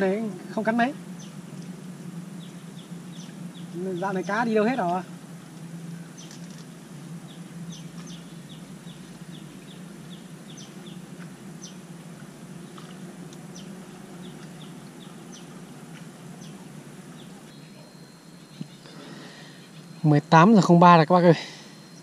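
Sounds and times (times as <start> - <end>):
small birds chirping: 0.0 - 22.0
steady low hum: 0.0 - 22.0.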